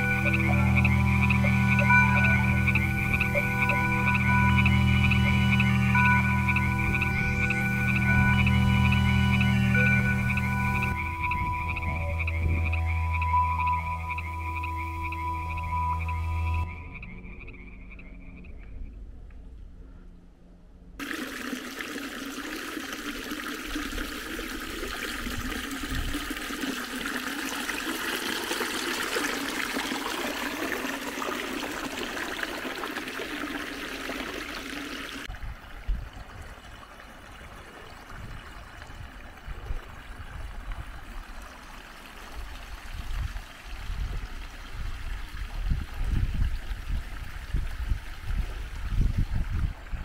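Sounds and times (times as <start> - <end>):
stream trickling over rocks: 0.0 - 16.7, 21.0 - 50.0.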